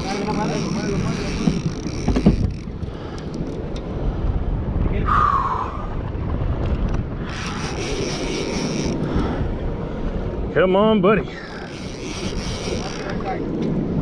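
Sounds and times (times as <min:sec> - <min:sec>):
boat engine rumble: 0:00.0 - 0:14.0
wind on microphone: 0:00.0 - 0:14.0.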